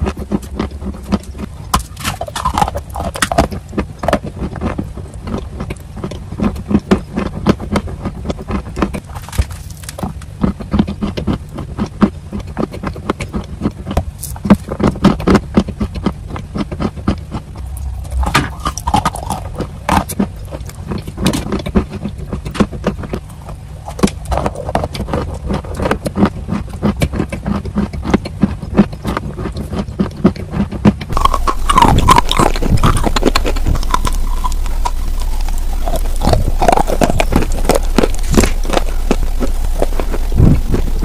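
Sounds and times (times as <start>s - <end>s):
chalk crunching between teeth: 0.0s - 41.0s
clay chewing with wet mouth sounds: 0.0s - 41.0s
low steady hum: 0.0s - 41.0s.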